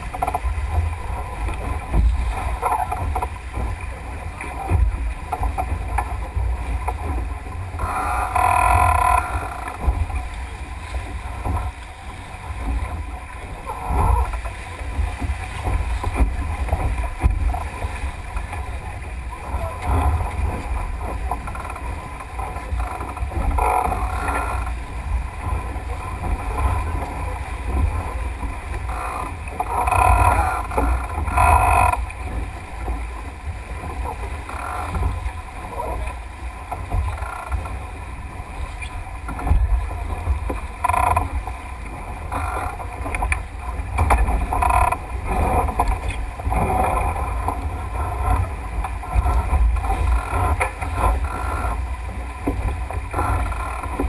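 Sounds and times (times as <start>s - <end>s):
low wind rumble on microphone: 0.0s - 54.0s
water rushing along boat hull: 0.0s - 54.0s.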